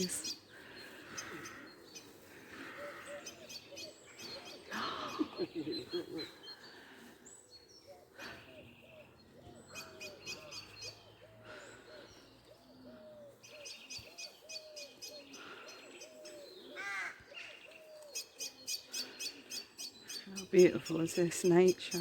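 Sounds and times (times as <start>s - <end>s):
repeated low hooting bird calls: 0.0s - 22.0s.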